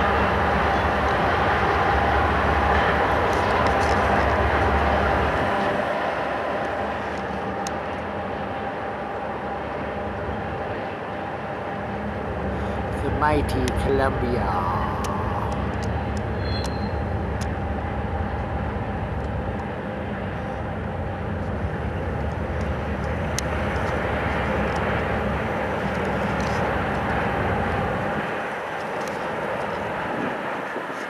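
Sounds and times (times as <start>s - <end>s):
vehicle interior drone: 0.0s - 31.0s.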